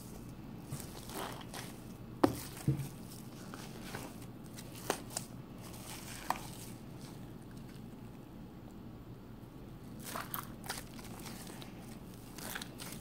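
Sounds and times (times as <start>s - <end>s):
slime squishing: 0.0s - 8.0s, 9.9s - 13.0s.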